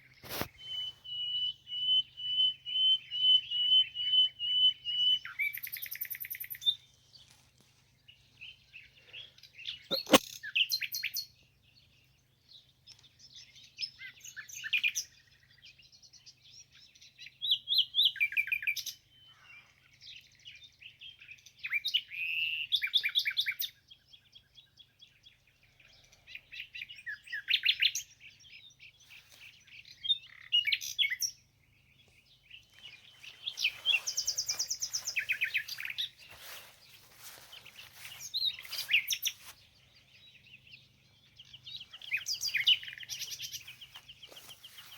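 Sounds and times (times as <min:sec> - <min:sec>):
songbird chirping and trilling: 0:00.0 - 0:44.9.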